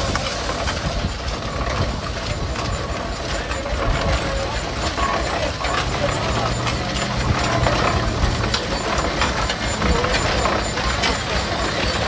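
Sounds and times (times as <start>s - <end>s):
steam traction engine rattling: 0.0s - 12.0s.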